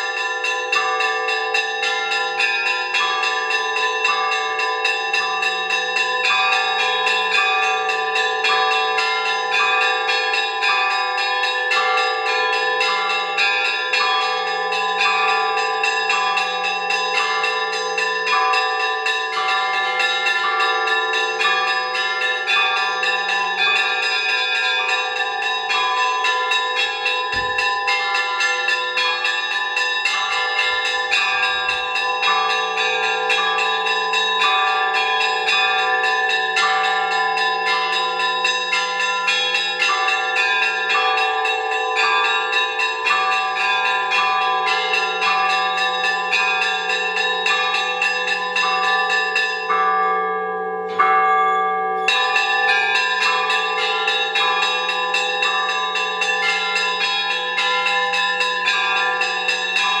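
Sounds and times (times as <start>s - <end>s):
church bells pealing: 0.0s - 60.0s.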